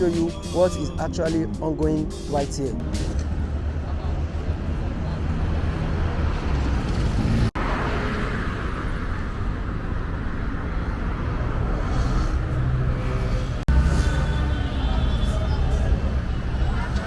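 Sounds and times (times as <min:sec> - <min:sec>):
vehicles passing on expressway: 0:02.5 - 0:17.0.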